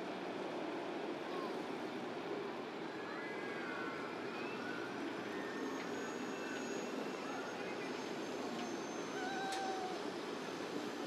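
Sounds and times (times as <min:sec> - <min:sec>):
ferry engines low rumble: 0:00.0 - 0:11.0.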